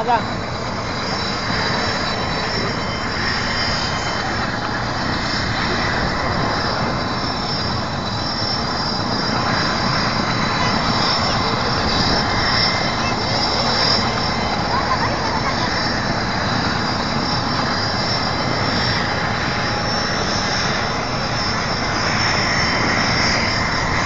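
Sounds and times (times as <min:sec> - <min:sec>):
helicopter running: 0:00.0 - 0:24.0.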